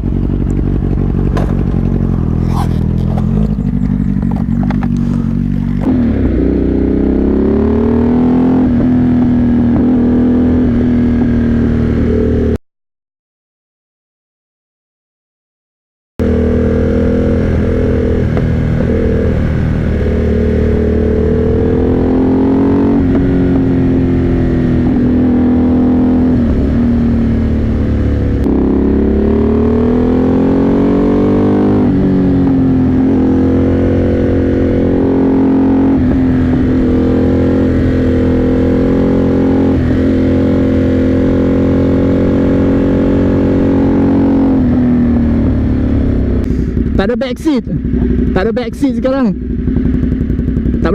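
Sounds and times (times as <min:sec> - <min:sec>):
motorcycle engine revving: 0:00.0 - 0:12.6, 0:16.2 - 0:50.9.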